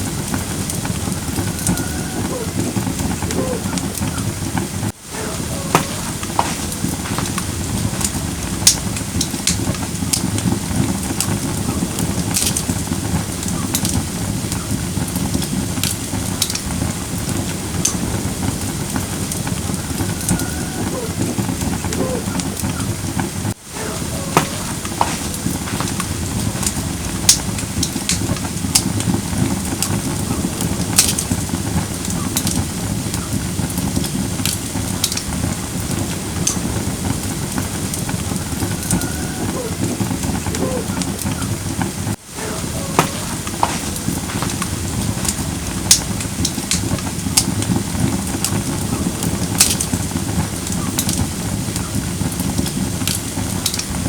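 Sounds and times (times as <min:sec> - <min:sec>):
firewood crackling and popping: 0:00.0 - 0:54.0
hiss of flames: 0:00.0 - 0:54.0.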